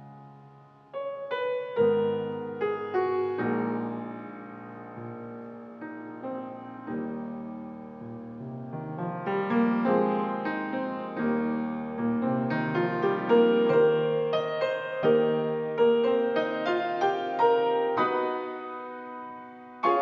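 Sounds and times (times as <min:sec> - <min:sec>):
grand piano playing quick notes: 0:01.0 - 0:20.0.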